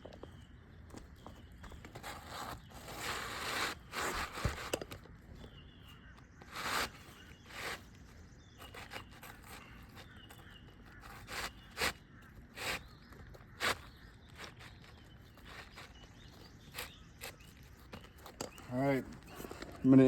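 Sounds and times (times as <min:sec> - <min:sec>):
shingles scraping and rustling: 0:00.0 - 0:20.0.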